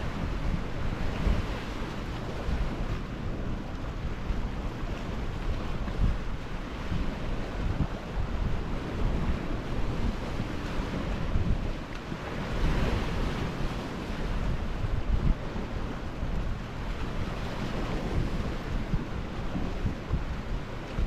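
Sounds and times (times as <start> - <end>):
sea waves washing on shore: 0.0 - 21.0
wind buffeting microphone: 0.0 - 21.0.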